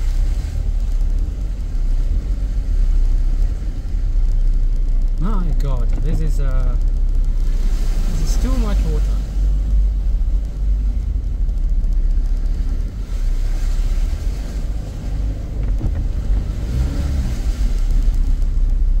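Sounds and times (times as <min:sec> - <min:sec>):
vehicle low rumble: 0:00.0 - 0:19.0
water swishing around vehicle: 0:00.0 - 0:19.0.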